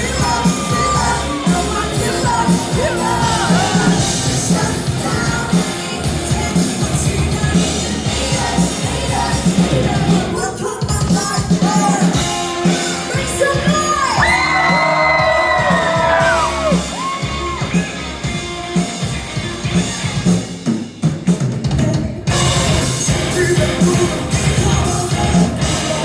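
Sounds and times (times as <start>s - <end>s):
drums driving: 0.0s - 26.0s
rock band playing live: 0.0s - 26.0s.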